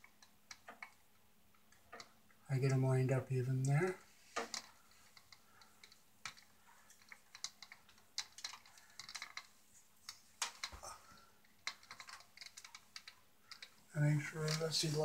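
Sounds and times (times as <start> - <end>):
electrical wires clicking and rustling: 0.0 - 15.0.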